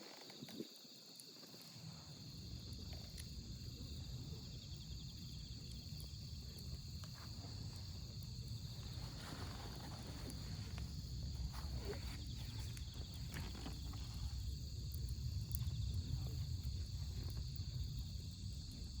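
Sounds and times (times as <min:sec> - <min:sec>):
campfire crackling: 0:00.0 - 0:19.0
crickets chirping: 0:00.0 - 0:19.0.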